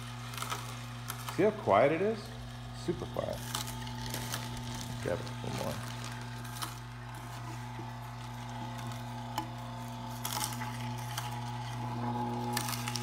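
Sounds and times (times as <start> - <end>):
juicer motor hum: 0.0 - 13.0.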